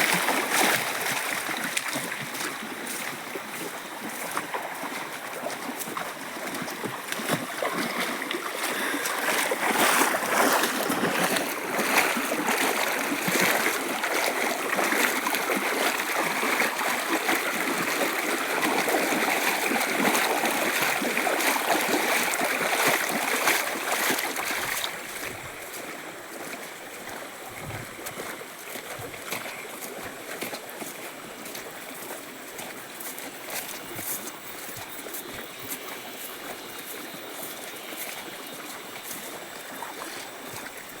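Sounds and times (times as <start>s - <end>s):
running water rushing: 0.0s - 41.0s.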